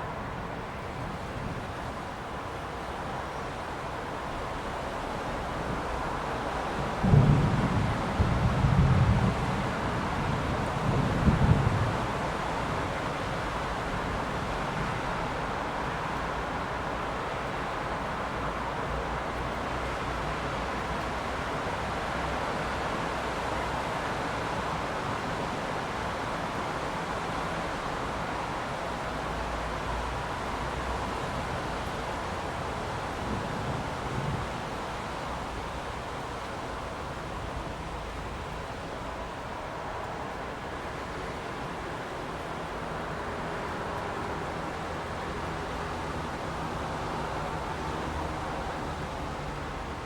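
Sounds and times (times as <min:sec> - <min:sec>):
heavy rain on street: 0:00.0 - 0:50.0.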